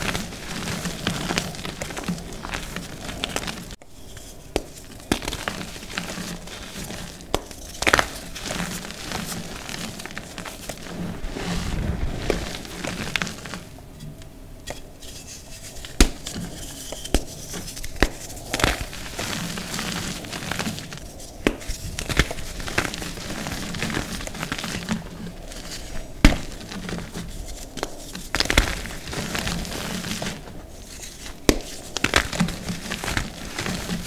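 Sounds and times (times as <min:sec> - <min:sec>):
hands crumbling powdery chalk: 0:00.0 - 0:13.8, 0:14.6 - 0:34.0.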